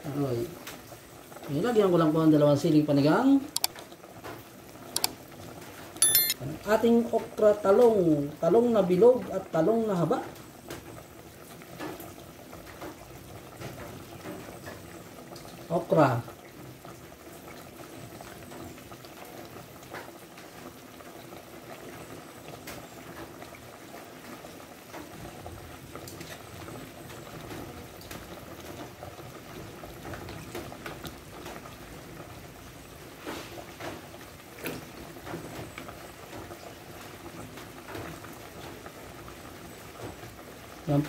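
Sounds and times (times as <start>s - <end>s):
broth boiling hard: 0.0s - 41.0s.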